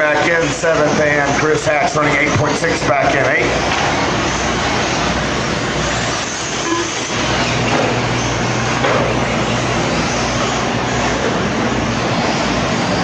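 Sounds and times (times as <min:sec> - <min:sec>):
high electric motor whines: 0:00.0 - 0:13.0
steady rush of noise: 0:00.0 - 0:13.0.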